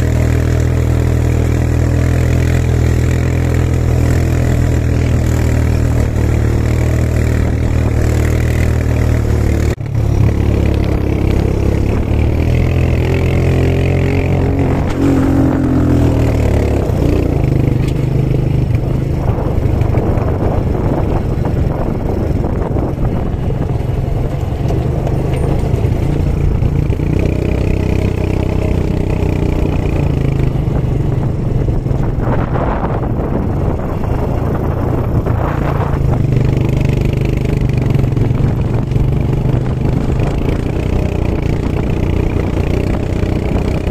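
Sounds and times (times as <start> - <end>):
quad bike engine revving: 0.0 - 43.9.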